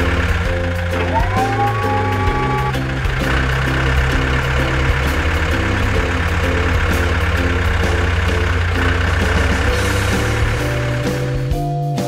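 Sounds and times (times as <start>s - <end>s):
tractor engine rumbling: 0.0s - 11.7s.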